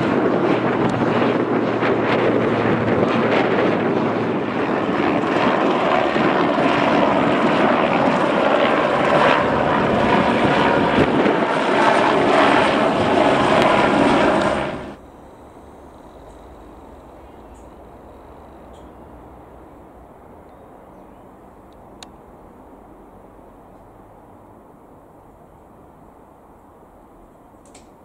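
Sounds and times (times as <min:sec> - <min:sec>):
propeller aircraft flying overhead: 0:00.0 - 0:27.3.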